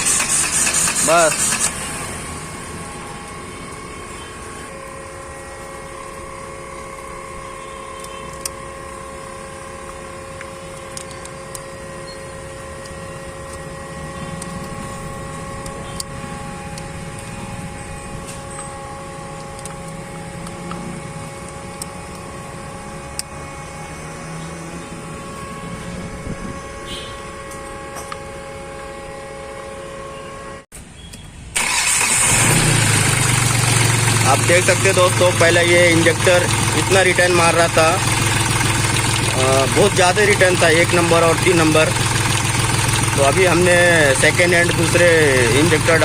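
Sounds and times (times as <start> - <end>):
diesel engine cranking: 0.0 - 23.7, 31.5 - 46.0
diesel engine idling: 0.0 - 29.5, 31.6 - 46.0.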